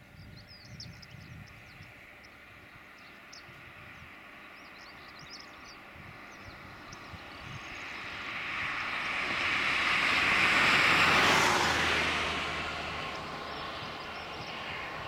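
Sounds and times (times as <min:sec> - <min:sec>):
distant jet engines: 0:00.0 - 0:15.0.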